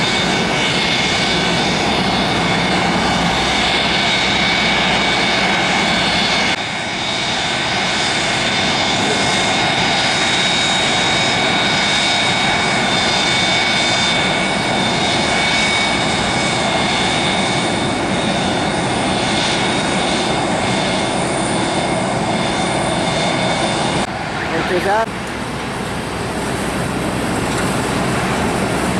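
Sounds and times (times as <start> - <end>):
jet engines whining and rumbling: 0.0 - 28.9.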